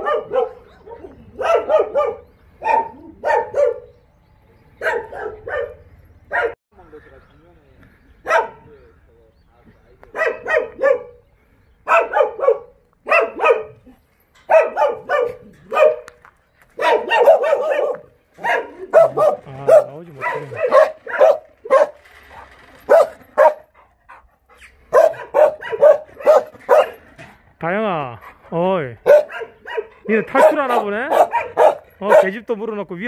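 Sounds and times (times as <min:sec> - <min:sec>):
dogs barking: 0:00.0 - 0:04.0, 0:04.8 - 0:06.6, 0:08.2 - 0:08.8, 0:10.1 - 0:27.4, 0:29.0 - 0:32.5.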